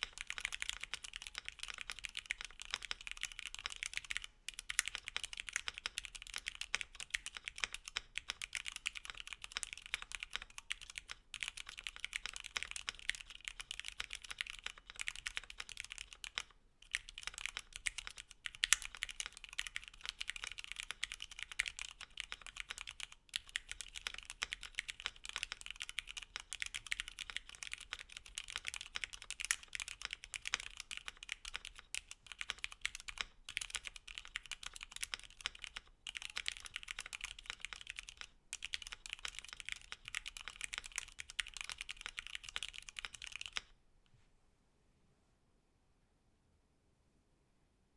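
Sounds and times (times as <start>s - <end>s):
mechanical keyboard typing: 0.0s - 43.7s.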